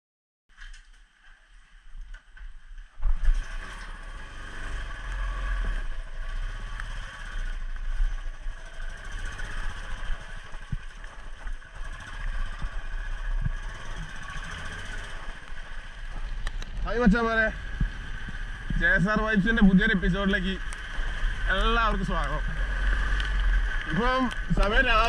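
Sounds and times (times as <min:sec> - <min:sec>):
motorcycle engine starting and running: 0:02.8 - 0:25.0.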